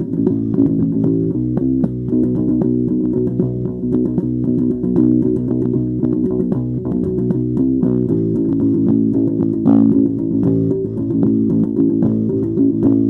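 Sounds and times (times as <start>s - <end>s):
electric bass guitar fingerstyle: 0.0s - 13.0s.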